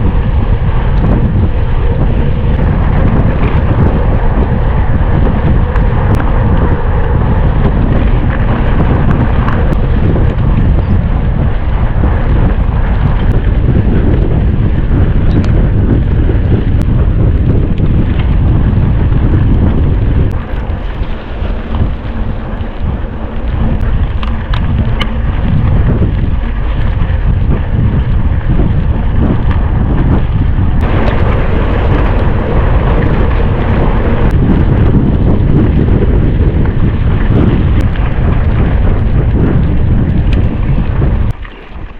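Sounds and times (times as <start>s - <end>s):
bike clicks: 0.0s - 41.9s
wind buffeting microphone: 0.0s - 41.9s.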